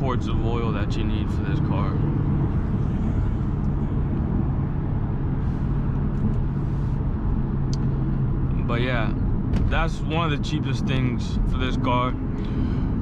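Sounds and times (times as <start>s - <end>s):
car engine cruising with low drone: 0.0s - 13.0s
road noise: 0.0s - 13.0s.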